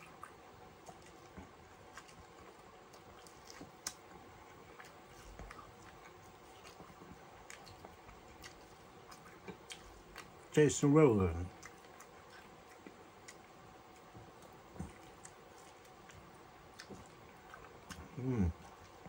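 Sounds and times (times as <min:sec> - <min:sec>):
faint chewing and biting corn: 0:00.0 - 0:19.0.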